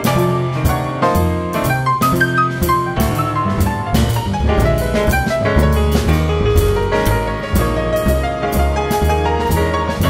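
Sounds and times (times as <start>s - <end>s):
drum kit with cymbals: 0.0s - 10.0s
grand piano melody: 0.0s - 10.0s
plucked upright bass: 0.0s - 10.0s.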